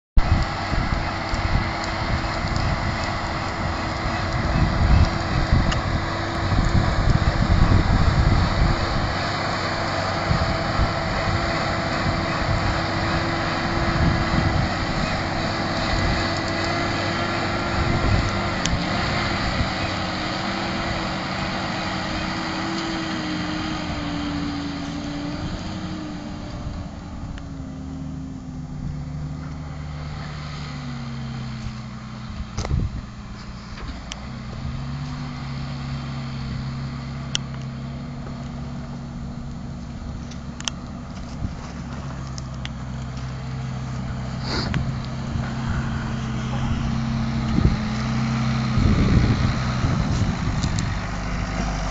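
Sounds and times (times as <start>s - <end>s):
tractor engine running: 0.2s - 51.9s.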